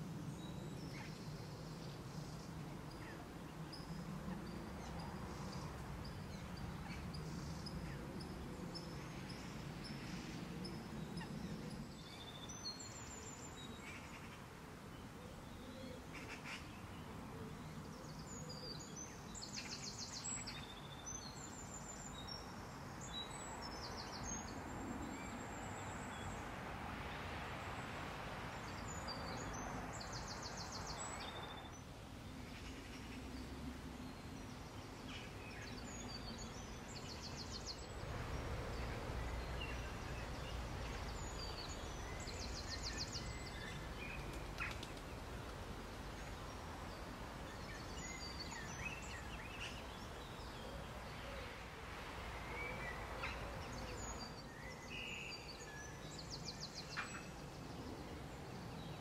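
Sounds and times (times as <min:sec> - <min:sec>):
outdoor background hiss: 0:00.0 - 0:59.0
songbirds chirping and trilling: 0:00.0 - 0:59.0.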